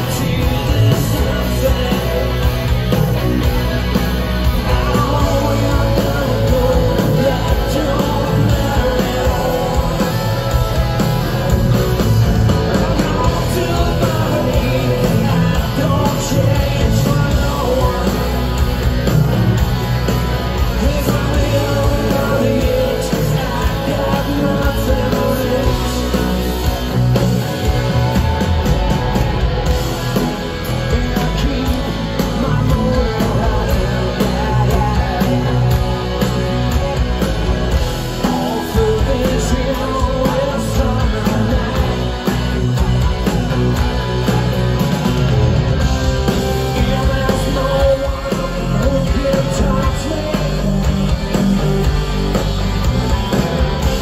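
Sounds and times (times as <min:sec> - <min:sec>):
man singing lead vocal: 0:00.0 - 0:44.8, 0:45.8 - 0:52.4
electric guitars: 0:00.0 - 0:54.0
live rock band playing: 0:00.0 - 0:54.0.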